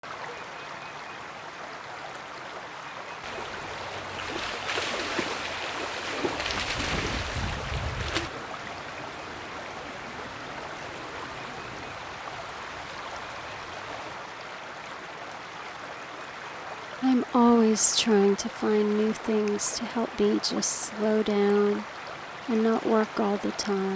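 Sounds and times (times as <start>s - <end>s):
creek water running: 0.0s - 23.9s.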